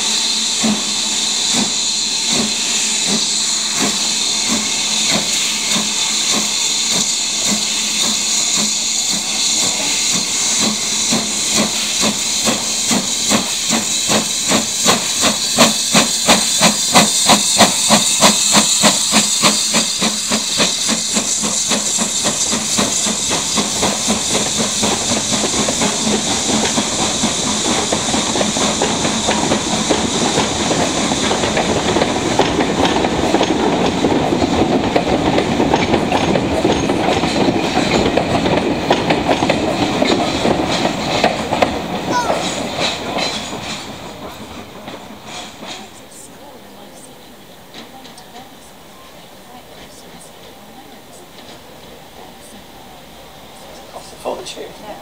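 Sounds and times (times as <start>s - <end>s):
steady steam hiss: 0.0s - 55.0s
steam locomotive chuffing: 0.0s - 55.0s
wheels rumbling on rails: 0.0s - 55.0s.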